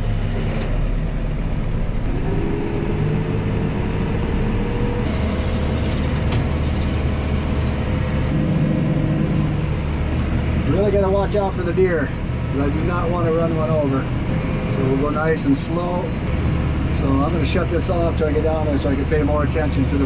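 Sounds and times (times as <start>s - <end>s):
tractor engine revving: 0.0s - 20.0s.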